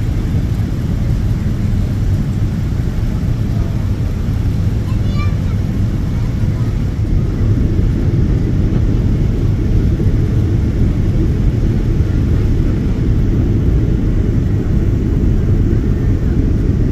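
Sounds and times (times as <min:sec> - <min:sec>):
airliner landing rumble: 0:00.0 - 0:16.9.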